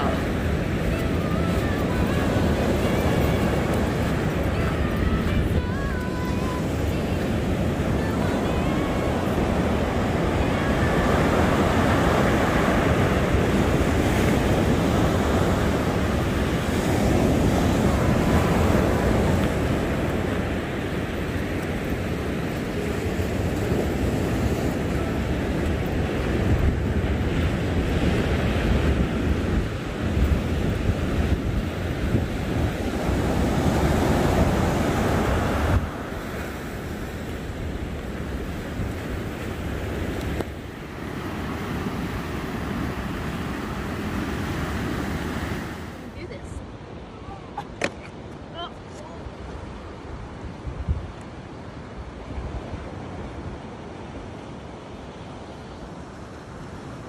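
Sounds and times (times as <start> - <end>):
wind buffeting microphone: 0.0 - 46.0, 49.3 - 53.4
surf breaking on beach: 0.0 - 46.4.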